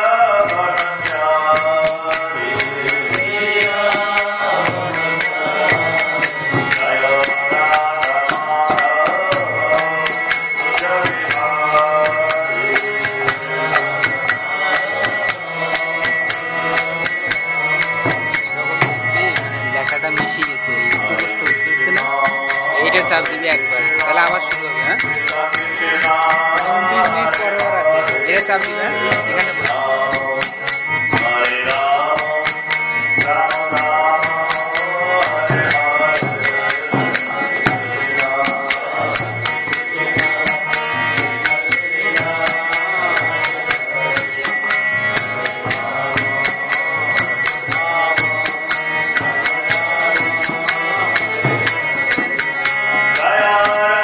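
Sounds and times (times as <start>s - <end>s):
hand cymbals ringing: 0.0s - 54.0s
man singing a chant: 0.0s - 54.0s.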